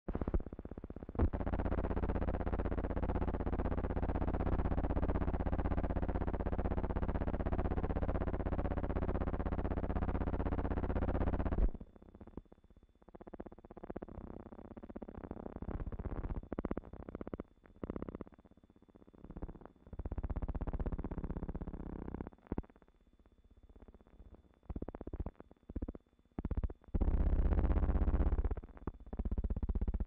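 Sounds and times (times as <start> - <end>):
distorted low buzzing hum: 0.1 - 22.8, 23.4 - 30.0
faint crackle: 0.1 - 30.0.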